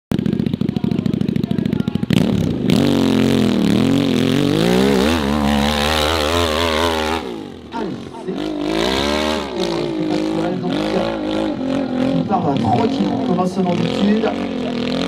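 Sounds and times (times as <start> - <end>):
dirt bike engine revving: 0.1 - 15.0.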